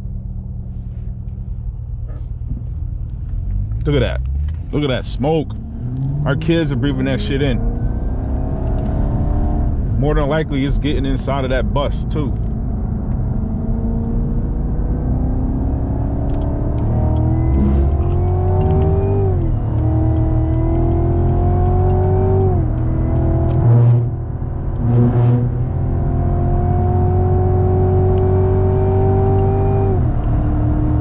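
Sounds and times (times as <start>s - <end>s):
car engine accelerating hard: 3.4s - 31.0s.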